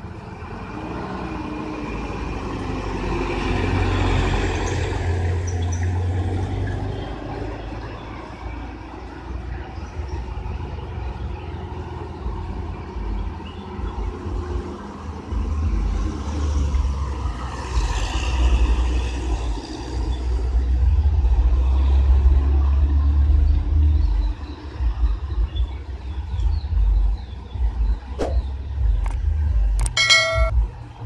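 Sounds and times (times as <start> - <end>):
cars and buses passing: 0.0 - 31.0.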